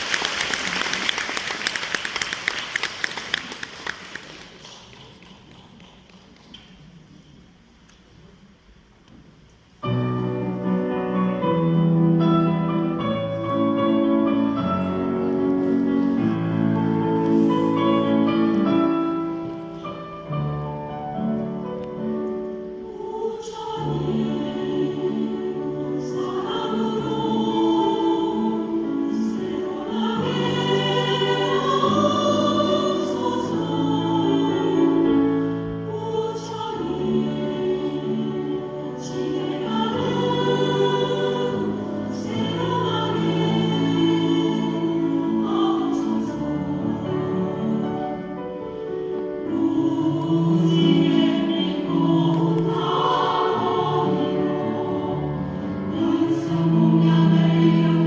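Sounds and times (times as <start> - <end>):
choir singing a hymn: 9.8 - 58.0.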